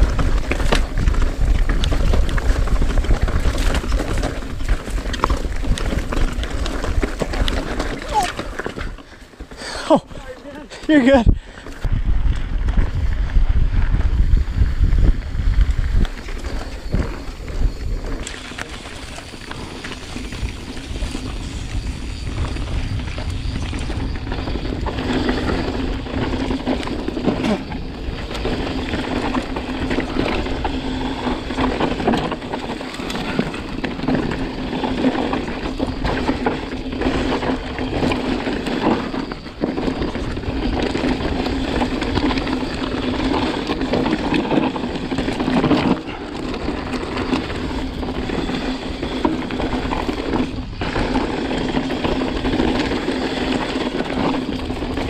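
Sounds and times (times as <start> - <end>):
bike rattling over bumps: 0.0 - 55.0
tyres on dirt: 0.0 - 55.0
wind rushing over microphone: 0.0 - 55.0.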